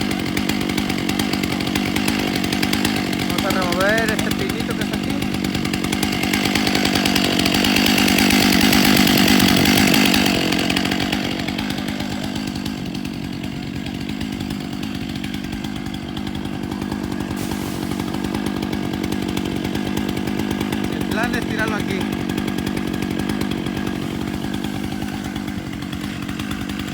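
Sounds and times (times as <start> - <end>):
chainsaw running: 0.0 - 26.9.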